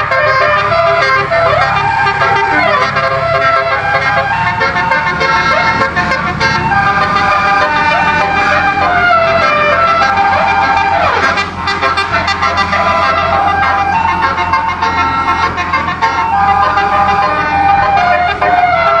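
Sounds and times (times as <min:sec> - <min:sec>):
air horns playing a melody: 0:00.0 - 0:19.0.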